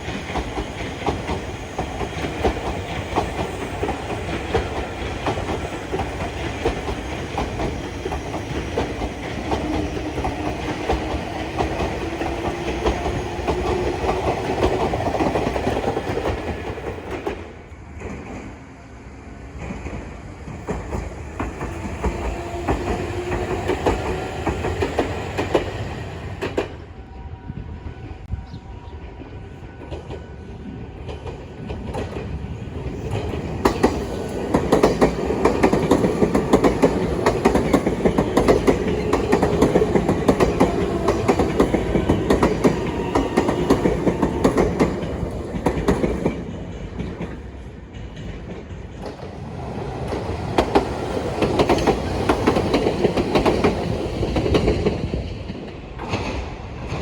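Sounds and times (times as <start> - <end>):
electric train wheels clattering: 0.0 - 18.6, 19.4 - 26.8, 29.8 - 57.0.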